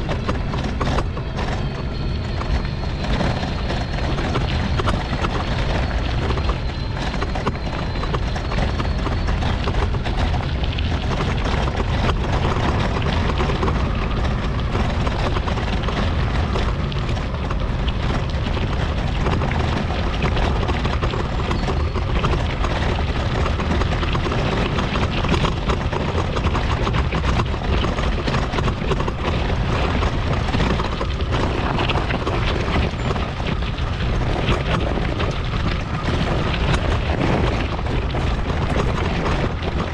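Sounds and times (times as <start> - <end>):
mobility scooter rolling on rough path: 0.0 - 39.9.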